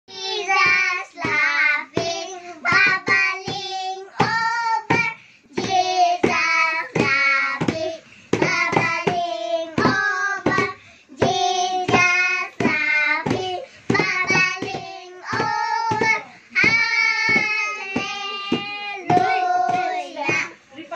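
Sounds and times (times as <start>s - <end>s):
girls singing together: 0.1s - 20.6s.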